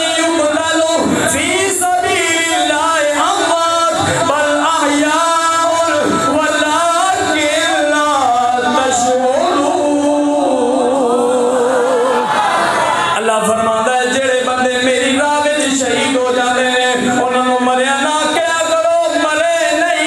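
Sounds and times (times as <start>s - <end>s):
man chanting melodically: 0.0s - 12.2s, 13.1s - 20.0s.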